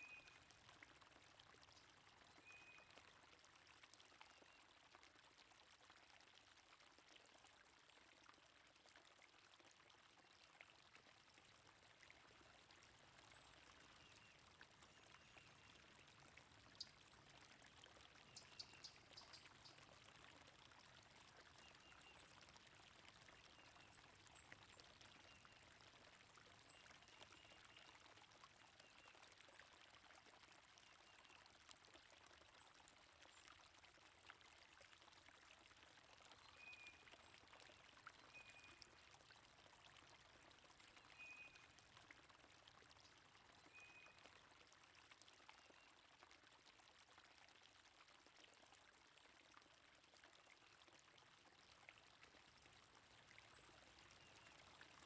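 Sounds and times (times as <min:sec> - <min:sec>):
flowing stream water: 0:00.0 - 0:55.0.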